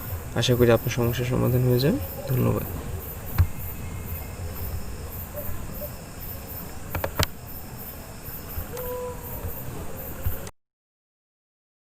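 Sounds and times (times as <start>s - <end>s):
low hum: 0.0s - 10.2s
faint high chirping: 0.0s - 10.5s.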